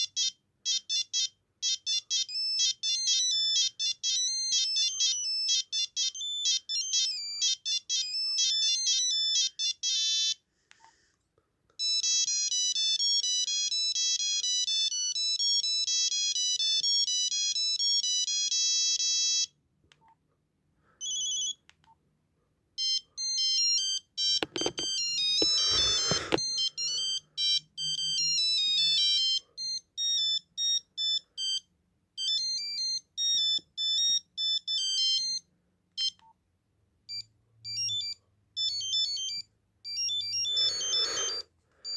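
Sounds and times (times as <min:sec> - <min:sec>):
monophonic phone ringtone melodies: 0:00.0 - 0:10.4, 0:11.8 - 0:19.6, 0:21.0 - 0:21.6, 0:22.8 - 0:36.2, 0:37.1 - 0:41.9.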